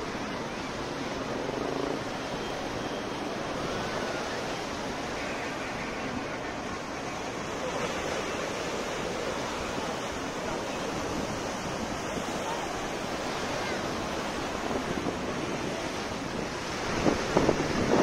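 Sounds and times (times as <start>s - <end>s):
sea surf breaking: 0.0s - 18.0s.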